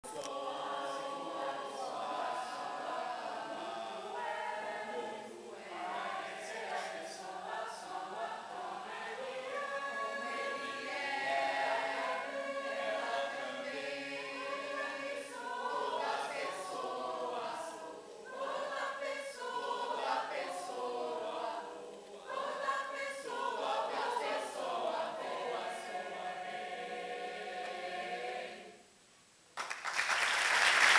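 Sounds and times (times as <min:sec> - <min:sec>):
choir singing: 0:00.0 - 0:28.8.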